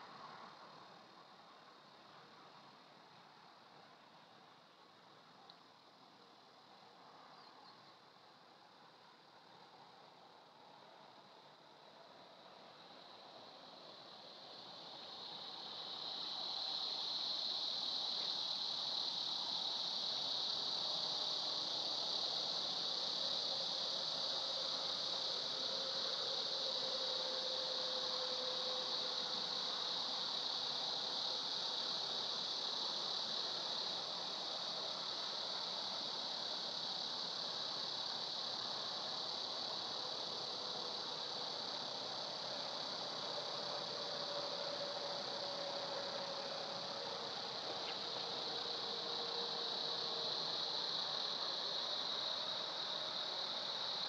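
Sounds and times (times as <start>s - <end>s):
insect chorus drone: 0.0s - 54.0s
light hiss: 0.0s - 54.0s.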